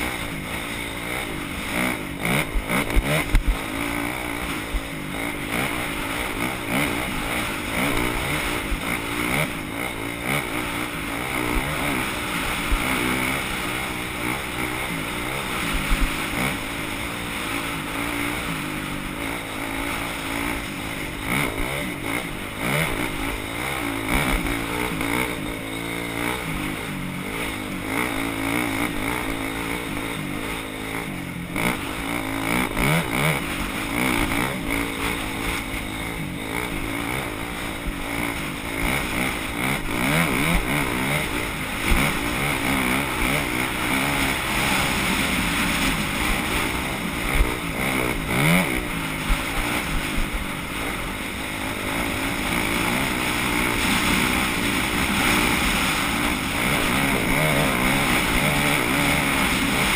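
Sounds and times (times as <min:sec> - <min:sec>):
dirt bike engine revving: 0:00.0 - 0:59.9
steady rushing noise: 0:00.0 - 0:59.9.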